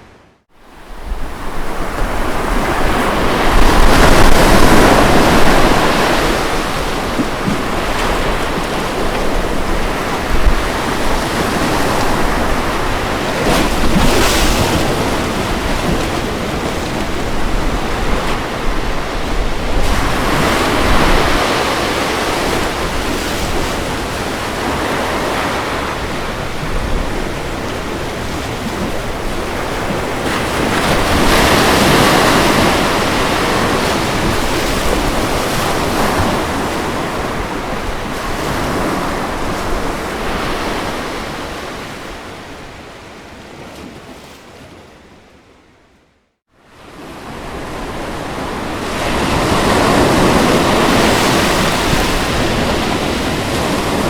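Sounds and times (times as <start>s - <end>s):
wind noise on microphone: 0.0s - 44.0s, 47.5s - 54.0s
ocean waves breaking: 0.0s - 45.7s, 46.6s - 54.0s.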